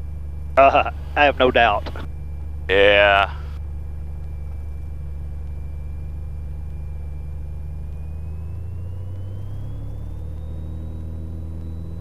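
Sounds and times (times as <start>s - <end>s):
aircraft engine and propeller: 0.0s - 12.0s.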